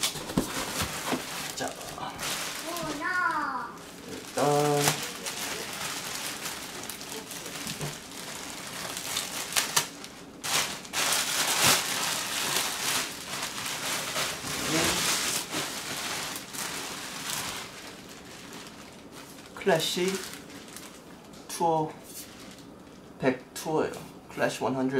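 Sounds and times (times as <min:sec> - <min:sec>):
bubble wrap crinkling: 0:00.0 - 0:23.2.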